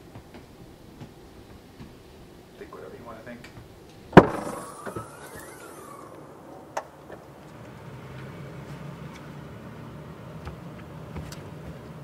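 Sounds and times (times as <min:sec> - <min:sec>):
road traffic hum: 0:00.8 - 0:12.0.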